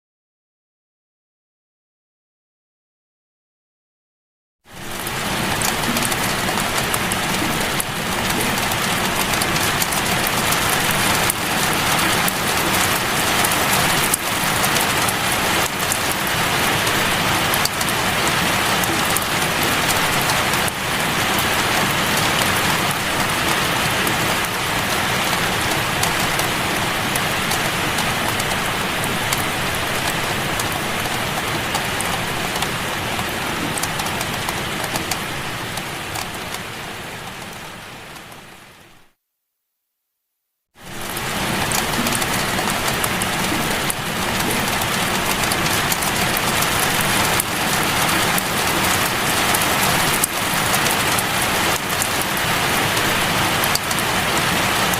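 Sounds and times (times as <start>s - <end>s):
heavy rainfall: 4.7s - 39.2s, 40.8s - 54.9s.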